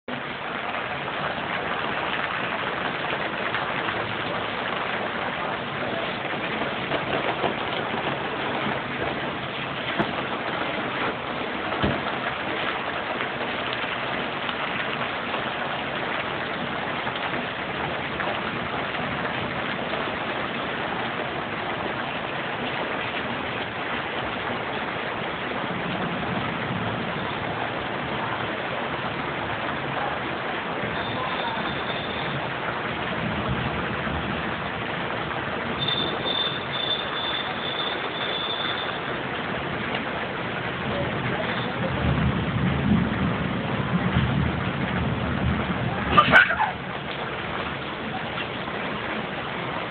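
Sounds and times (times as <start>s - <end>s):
rain on concrete: 0.0s - 49.9s.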